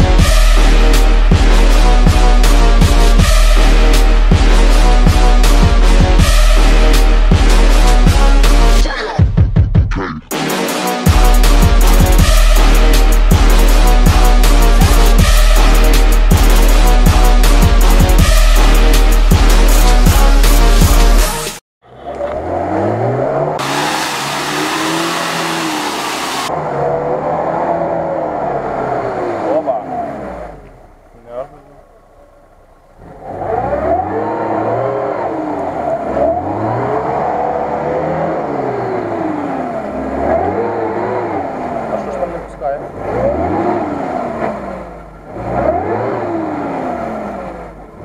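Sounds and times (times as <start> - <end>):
car engine revving: 0.0 - 8.9, 10.3 - 48.0.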